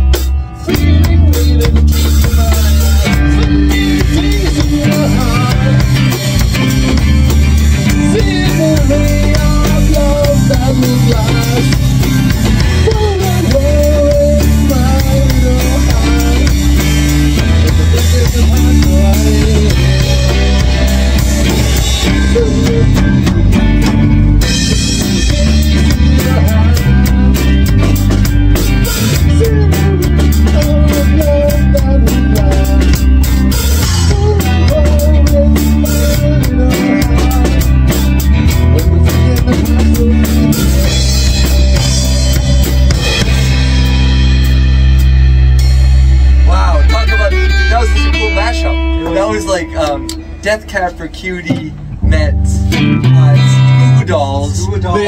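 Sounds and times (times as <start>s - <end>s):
drum kit beat: 0.0s - 55.0s
electric guitar: 0.0s - 55.0s.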